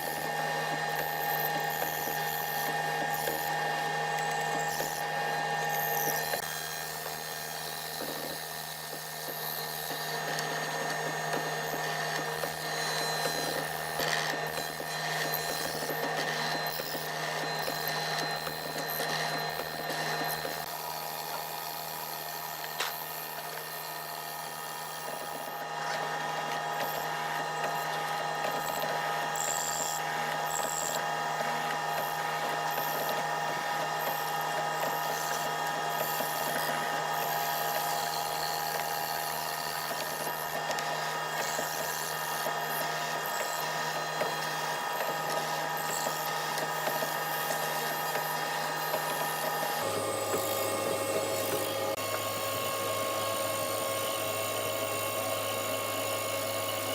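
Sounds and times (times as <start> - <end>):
power tool motor whining: 0.0 - 56.9.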